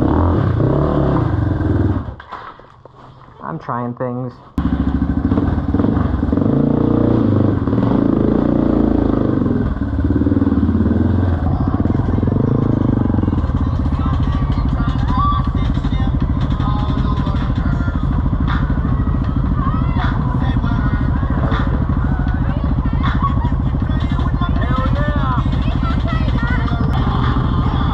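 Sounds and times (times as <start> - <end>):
dirt bike engine revving: 0.0 - 2.2, 4.6 - 27.9.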